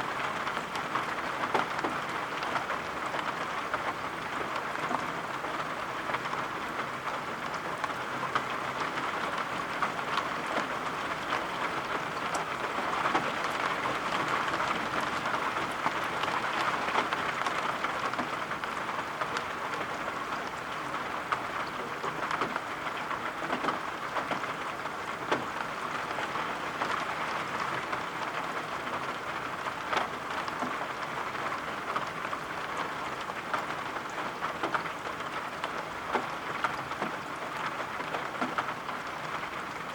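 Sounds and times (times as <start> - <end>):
steady rain hiss: 0.0 - 39.9
sharp taps of raindrops: 0.4 - 4.0, 4.6 - 39.7.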